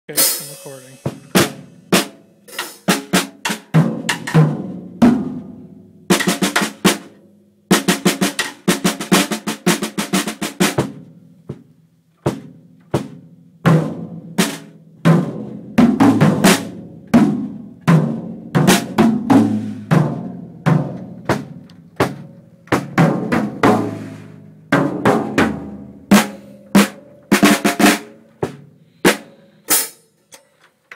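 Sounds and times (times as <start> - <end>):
drum kit playing fast fills: 0.1 - 5.5, 6.1 - 11.7, 12.3 - 30.0.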